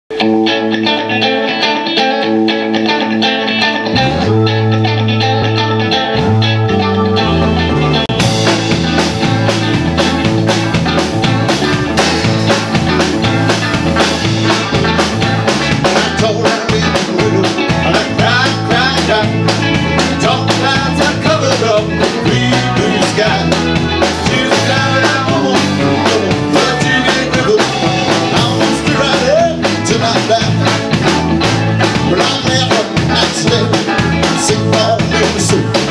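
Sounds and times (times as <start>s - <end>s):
bass line: 0.1s - 35.9s
drum kit: 0.1s - 35.9s
electric guitar: 0.1s - 35.9s.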